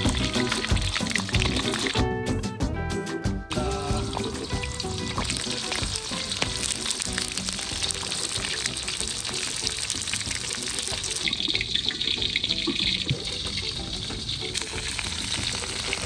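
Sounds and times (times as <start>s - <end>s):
fish sizzling in hot oil: 0.0s - 2.0s, 3.5s - 16.0s
background music: 0.0s - 16.0s.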